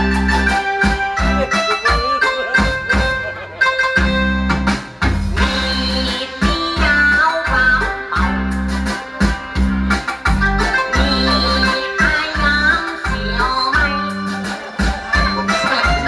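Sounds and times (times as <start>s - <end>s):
plucked keyboard melody: 0.0s - 16.0s
pulsing bass line: 0.0s - 16.0s.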